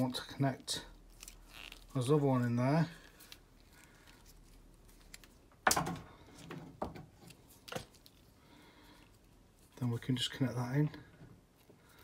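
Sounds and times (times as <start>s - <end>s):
wires clicking and rustling: 0.0s - 10.0s.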